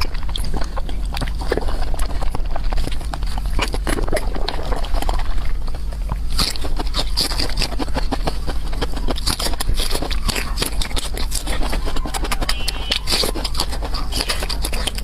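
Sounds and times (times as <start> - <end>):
steady low hum: 0.0 - 15.0
wet chewing and mouth smacking: 0.0 - 15.0.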